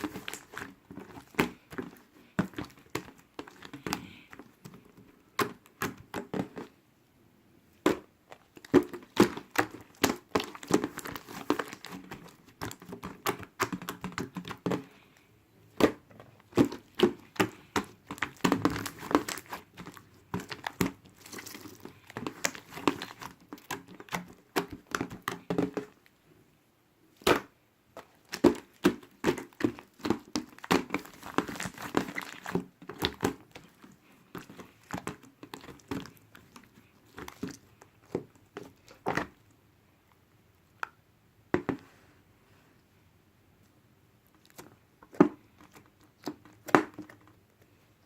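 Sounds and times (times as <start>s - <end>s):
crinkling and rustling handling: 0.0s - 6.8s, 7.7s - 26.4s, 27.1s - 40.8s, 43.6s - 48.0s.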